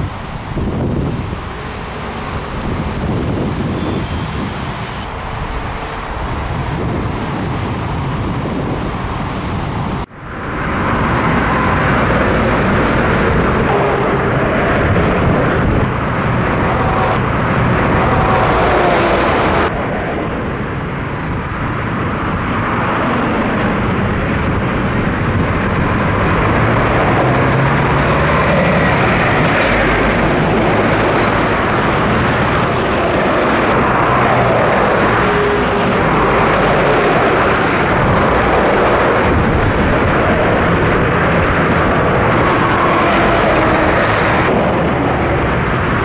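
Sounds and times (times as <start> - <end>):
diesel truck engine: 0.0 - 46.0
motorway traffic rushing: 0.0 - 46.0.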